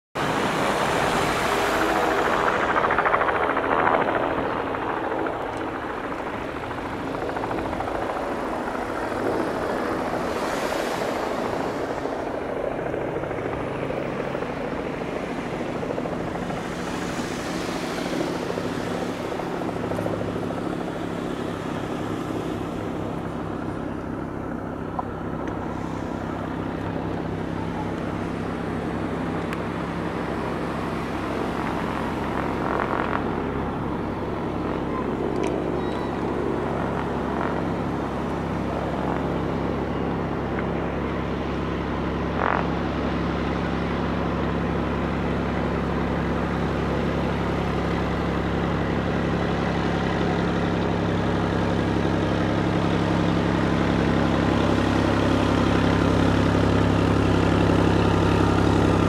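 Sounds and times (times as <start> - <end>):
airplane engine and propeller hum: 0.2 - 59.0.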